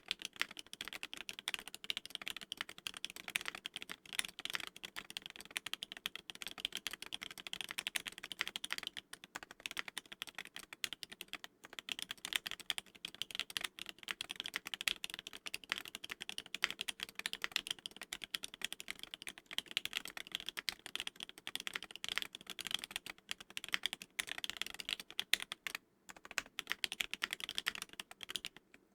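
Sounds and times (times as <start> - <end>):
mechanical keyboard typing: 0.0 - 28.8.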